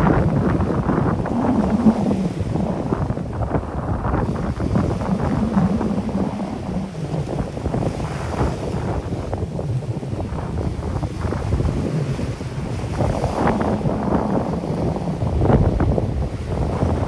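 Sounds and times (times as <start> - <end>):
waves washing onto beach: 0.0 - 17.0
wind buffeting microphone: 0.0 - 17.0.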